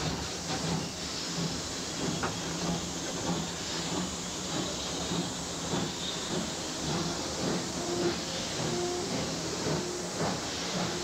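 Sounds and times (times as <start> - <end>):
locomotive rumble: 0.0 - 11.0.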